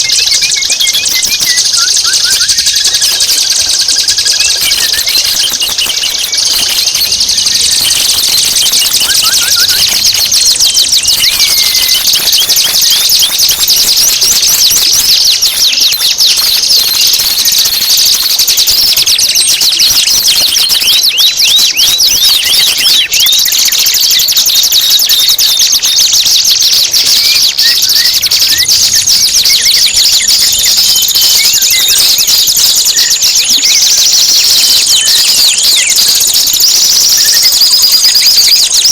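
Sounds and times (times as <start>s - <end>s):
songbird chattering trills: 0.0s - 38.9s.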